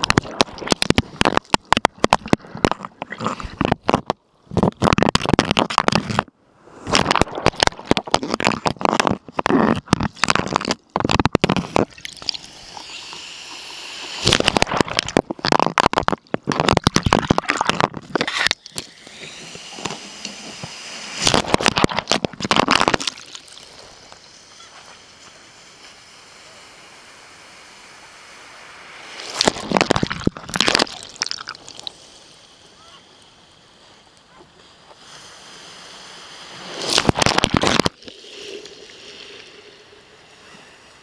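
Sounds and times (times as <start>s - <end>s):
water sloshing and gurgling: 0.0s - 26.0s, 29.0s - 32.0s, 36.4s - 40.6s
rushes of water: 0.0s - 41.0s.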